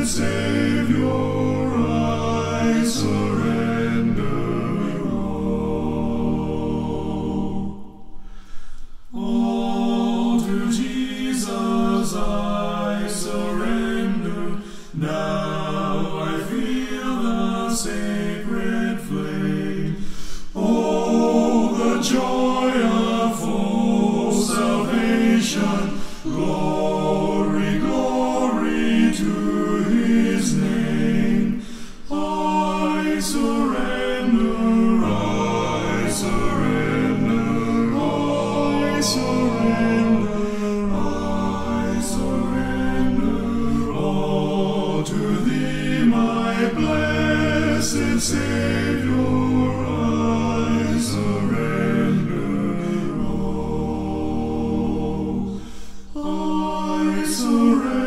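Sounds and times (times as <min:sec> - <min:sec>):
vocal group singing a hymn: 0:00.0 - 0:58.0.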